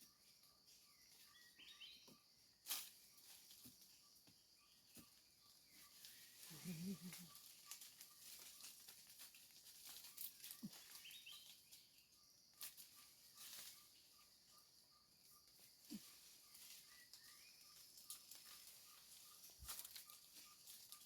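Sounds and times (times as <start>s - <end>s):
faint chirps: 0.0s - 9.1s, 9.9s - 21.0s.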